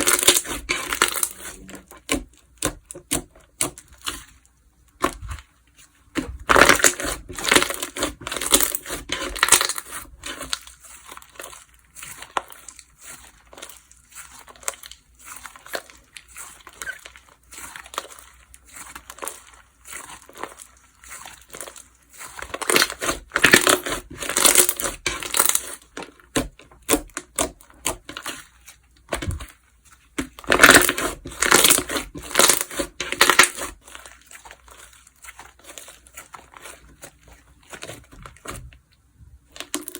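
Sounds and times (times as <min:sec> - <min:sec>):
slime crackling and popping: 0:00.0 - 0:05.4, 0:06.2 - 0:29.6, 0:30.2 - 0:39.9.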